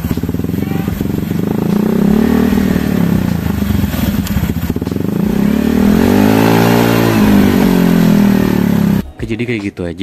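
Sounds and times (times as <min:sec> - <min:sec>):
scooter engine idling and revving: 0:00.0 - 0:09.2.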